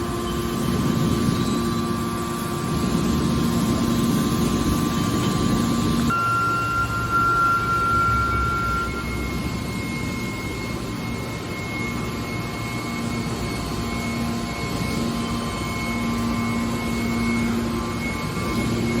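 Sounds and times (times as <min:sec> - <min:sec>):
baler machine hum: 0:00.0 - 0:19.0
thin high whine: 0:00.0 - 0:19.0.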